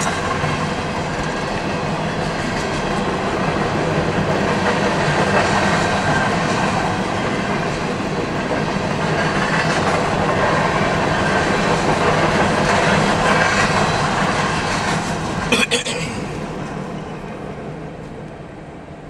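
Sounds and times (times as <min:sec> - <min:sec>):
train wheels rattling on rails: 0:00.0 - 0:19.0.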